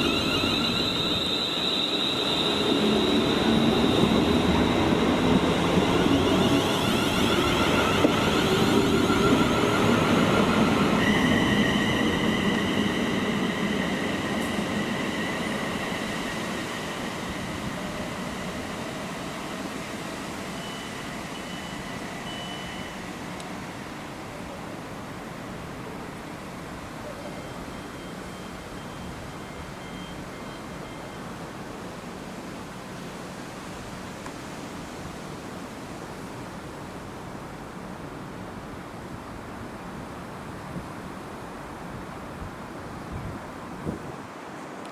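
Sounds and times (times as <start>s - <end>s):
passenger train rumble: 0.0s - 44.9s.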